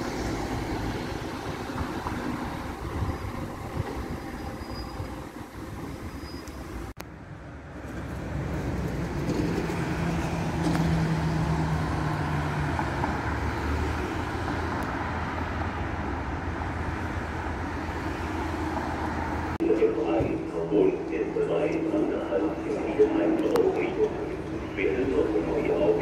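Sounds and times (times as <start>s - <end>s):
motor vehicle humming: 0.0s - 26.0s.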